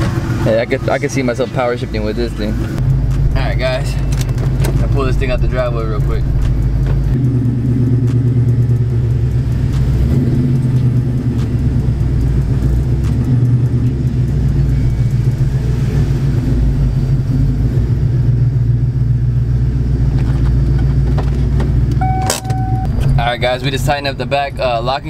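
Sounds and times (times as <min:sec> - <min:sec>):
car engine running at low revs: 0:00.0 - 0:25.0.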